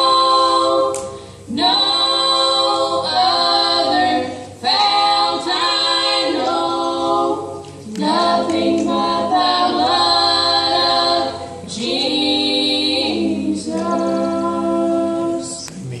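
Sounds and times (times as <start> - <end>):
gospel choir singing a cappella: 0.0 - 15.7.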